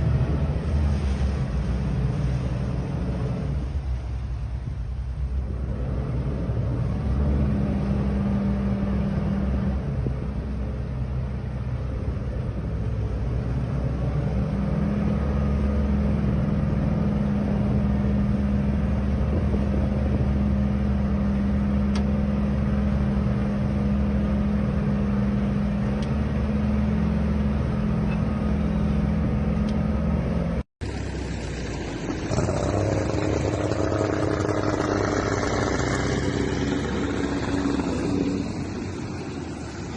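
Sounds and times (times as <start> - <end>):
different engine: 0.0 - 39.9
motorboat engine droning: 0.0 - 39.9
water: 0.0 - 39.9
wind: 0.0 - 39.9.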